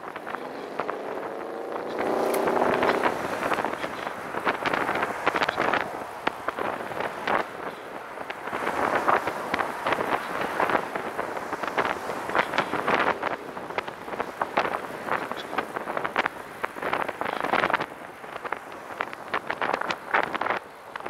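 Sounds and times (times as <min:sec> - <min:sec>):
passing car traffic: 0:00.0 - 0:21.0
wind buffeting microphone: 0:00.0 - 0:21.0.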